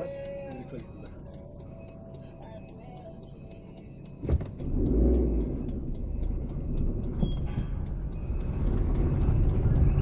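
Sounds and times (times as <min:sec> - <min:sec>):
car engine rumbling: 0:00.0 - 0:10.0
light even ticking: 0:00.0 - 0:10.0.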